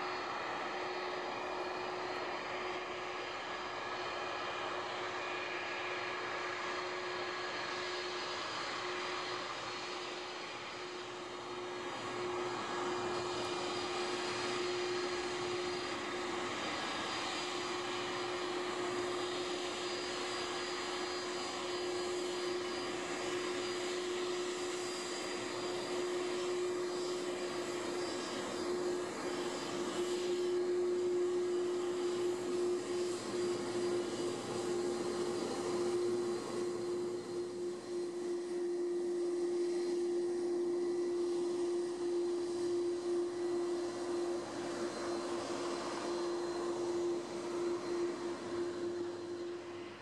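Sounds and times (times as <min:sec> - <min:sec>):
jet engines humming: 0:00.0 - 0:50.0.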